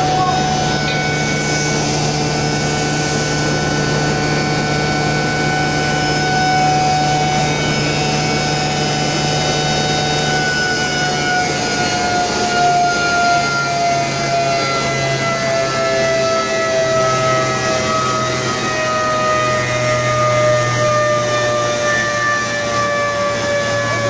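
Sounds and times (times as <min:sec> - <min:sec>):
grinding mill whining: 0:00.0 - 0:24.0
low hum: 0:00.0 - 0:24.0.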